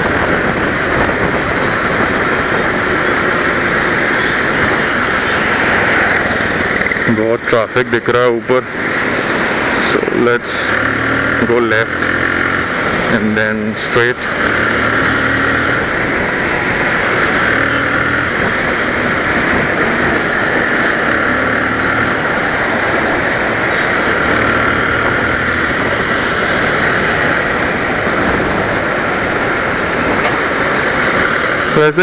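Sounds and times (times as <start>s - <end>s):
motorcycle engine running: 0.0s - 32.0s
wind noise: 0.0s - 32.0s.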